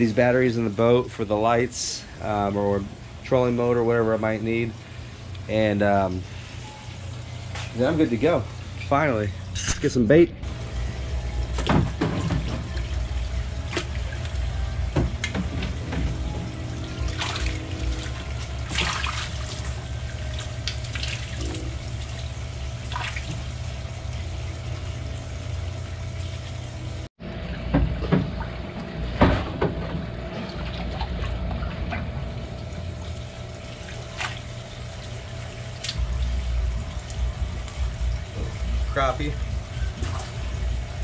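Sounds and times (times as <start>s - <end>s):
steady hum: 0.0s - 41.0s
water splashing and sloshing: 0.0s - 41.0s.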